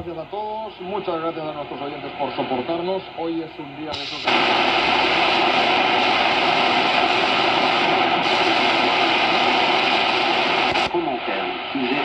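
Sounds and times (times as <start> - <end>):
shortwave radio static hiss: 0.0 - 12.0.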